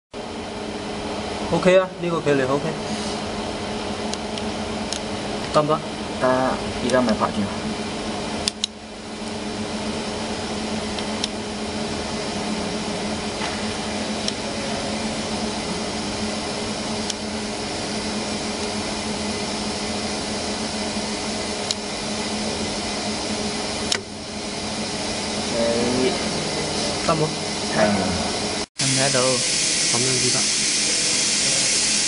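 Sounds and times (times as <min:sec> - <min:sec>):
machinery hum and hiss: 0:00.2 - 0:32.0.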